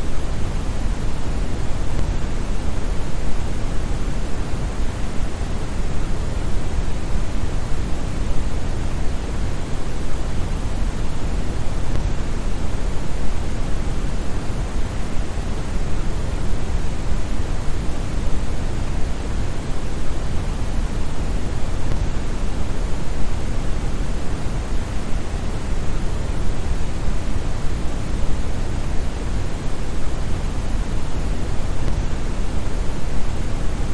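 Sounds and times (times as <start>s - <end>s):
brown noise hiss: 0.0s - 33.9s.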